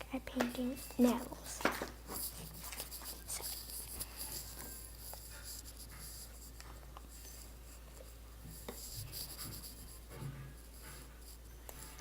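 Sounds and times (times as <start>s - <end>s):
slime being stirred in a bowl: 0.4s - 12.0s.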